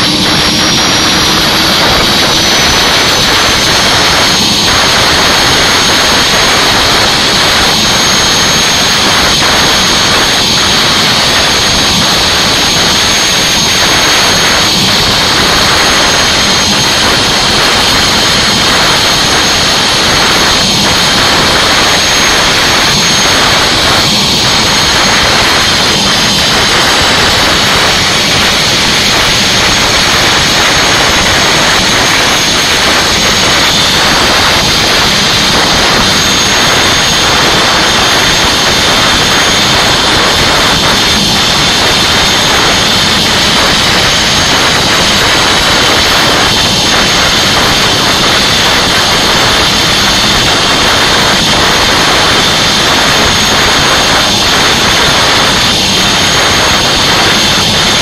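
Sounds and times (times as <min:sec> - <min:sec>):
turbine engine rush and whine: 0:00.0 - 0:58.0.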